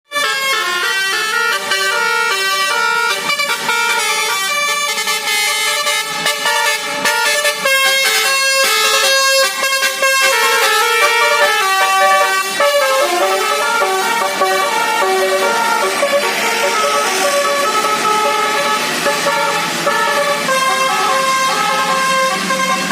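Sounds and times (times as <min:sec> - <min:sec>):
musical horn playing a tune: 0:00.1 - 0:22.9.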